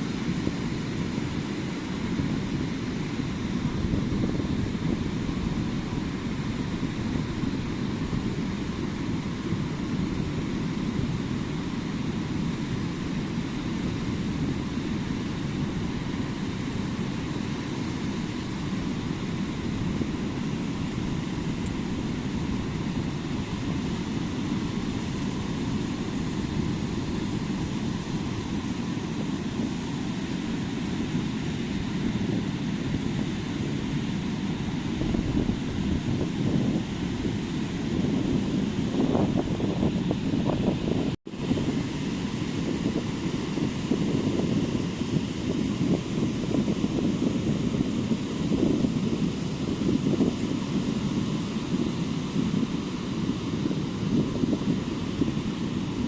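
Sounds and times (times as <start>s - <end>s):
ocean surf breaking on beach: 0.0s - 56.0s
wind buffeting microphone: 0.0s - 56.0s.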